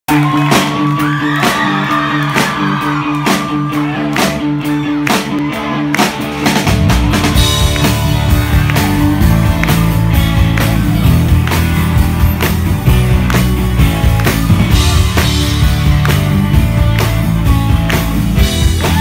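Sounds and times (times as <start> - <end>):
live rock band playing: 0.1 - 19.0
steady drum beat: 0.1 - 19.0.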